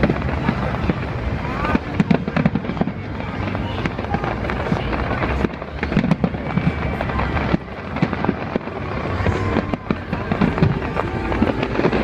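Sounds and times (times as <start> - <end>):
constant rumble: 0.0 - 12.0
fireworks bangs and crackling: 0.0 - 12.0.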